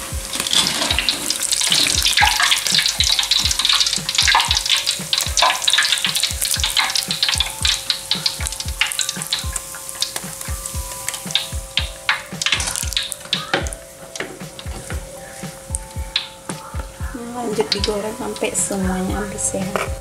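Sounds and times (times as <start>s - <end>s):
hot oil sizzling and crackling: 0.0s - 18.8s
soft low thuds: 0.0s - 20.0s.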